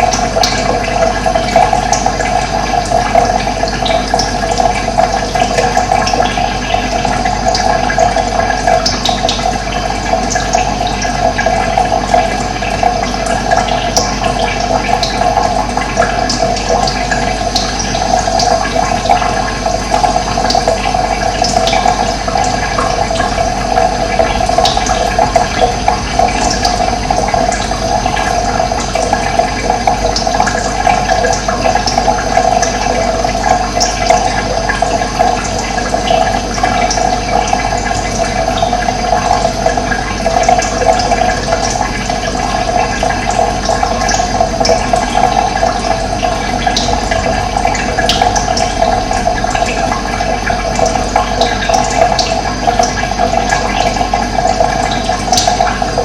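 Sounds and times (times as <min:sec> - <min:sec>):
running water rushing and gurgling: 0:00.0 - 0:56.0.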